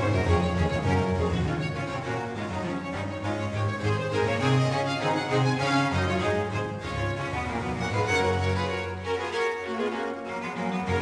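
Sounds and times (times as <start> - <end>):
bowed string music: 0.0 - 11.0.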